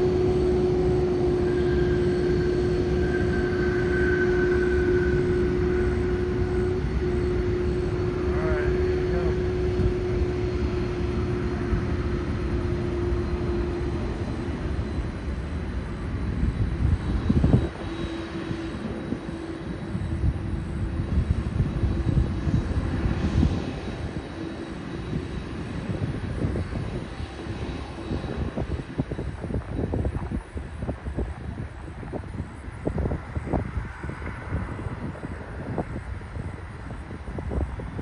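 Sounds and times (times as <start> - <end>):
jet airliner engines droning: 0.0 - 38.0.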